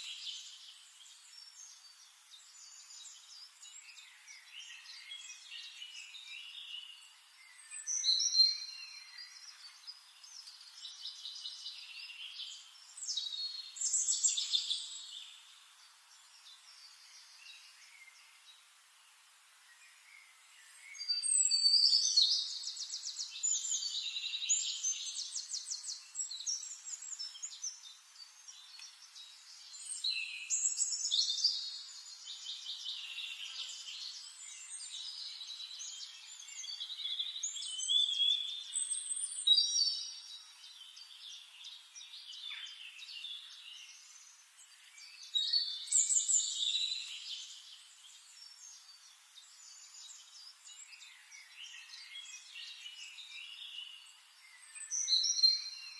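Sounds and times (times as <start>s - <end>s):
songbirds trilling and chirping: 0.0s - 55.9s.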